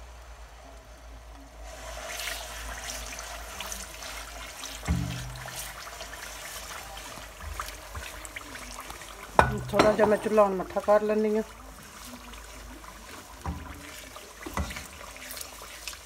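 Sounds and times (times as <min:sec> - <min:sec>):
semolina sizzling in ghee: 0:00.0 - 0:16.0
spatula stirring in pan: 0:01.6 - 0:16.0.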